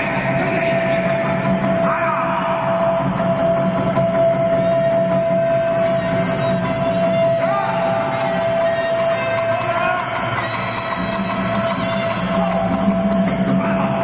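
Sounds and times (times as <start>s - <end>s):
arena crowd noise: 0.0s - 14.0s.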